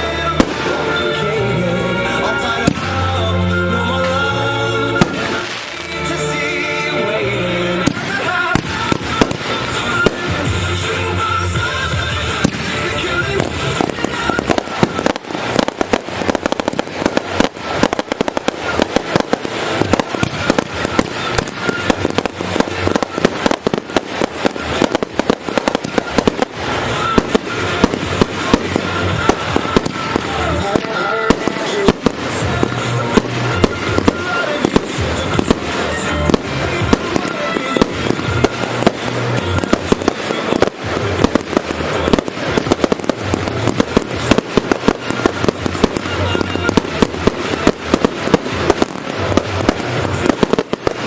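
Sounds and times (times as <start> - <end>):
fireworks bangs and crackling: 0.0 - 51.0
music: 0.0 - 51.0.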